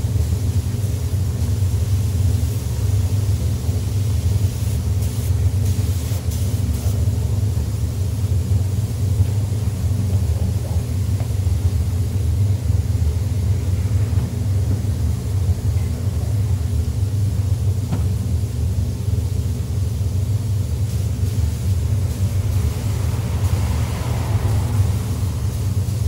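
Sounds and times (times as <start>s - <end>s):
ventilation fans rumbling: 0.0s - 26.0s.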